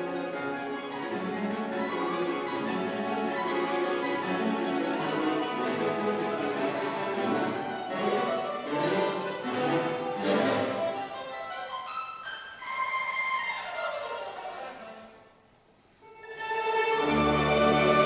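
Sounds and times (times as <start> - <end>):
mandolin orchestra playing: 0.0 - 18.0.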